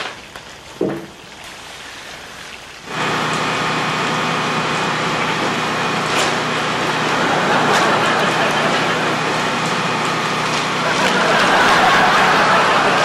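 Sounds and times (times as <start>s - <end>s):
liquid spray pattering: 0.0s - 13.0s.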